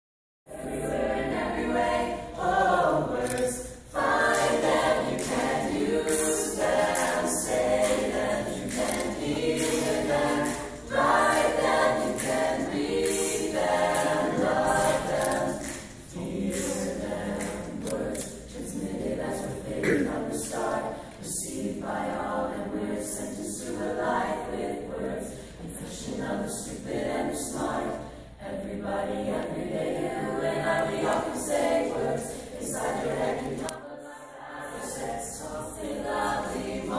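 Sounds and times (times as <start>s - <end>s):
mixed choir singing a cappella: 0.5s - 36.9s.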